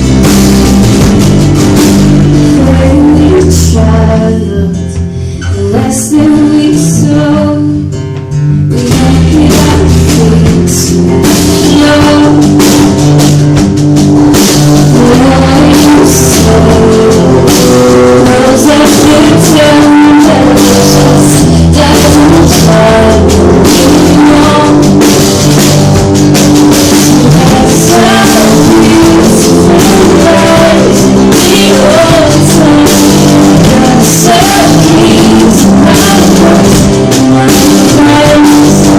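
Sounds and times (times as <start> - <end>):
live folk-rock band: 0.0 - 38.9.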